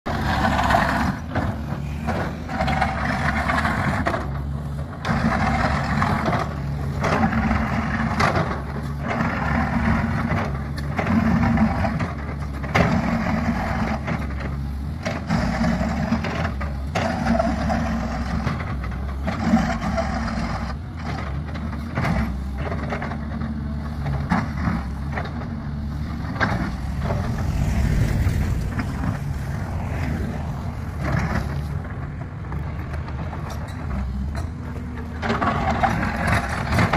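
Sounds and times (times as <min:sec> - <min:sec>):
bucket scraping road surface: 0:00.1 - 0:34.3, 0:35.1 - 0:36.9
bitumen slabs cracking and knocking: 0:00.1 - 0:36.9
excavator diesel engine running: 0:00.1 - 0:36.9.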